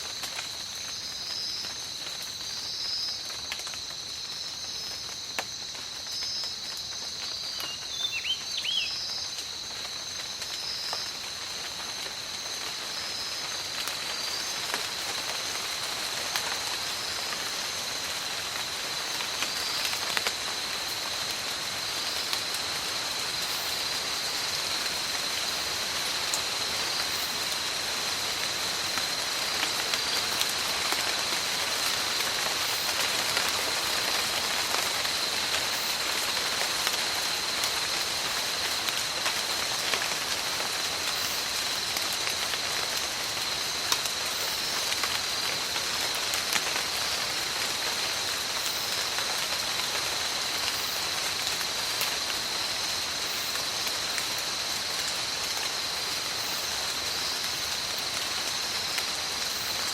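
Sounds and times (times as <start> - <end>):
rain falling in forest: 0.0 - 59.9.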